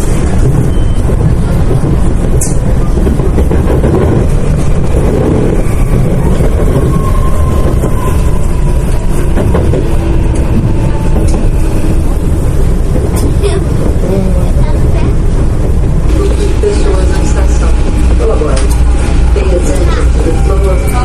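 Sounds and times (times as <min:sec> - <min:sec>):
train traction motors growling: 0:00.0 - 0:21.0.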